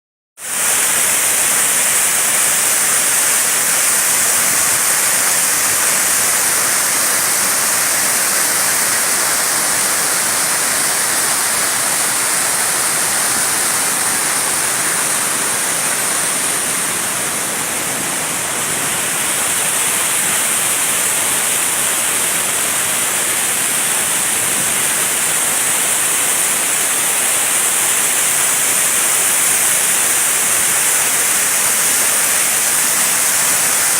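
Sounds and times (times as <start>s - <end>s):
waterfall rushing: 0.4s - 33.9s.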